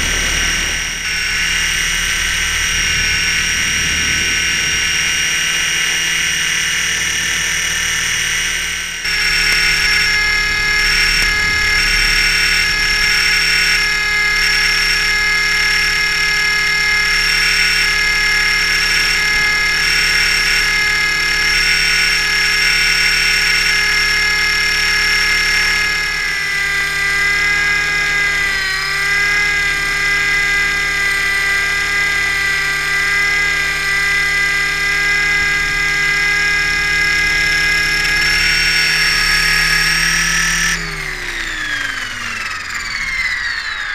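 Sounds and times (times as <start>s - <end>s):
electric motor and gears whining: 0.0s - 43.9s
helicopter rotor noise: 0.0s - 43.9s.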